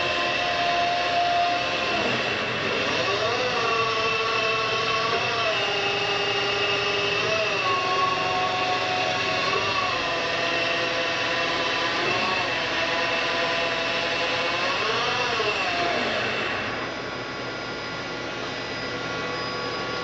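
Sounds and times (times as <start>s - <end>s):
lathe whining: 0.0s - 20.0s.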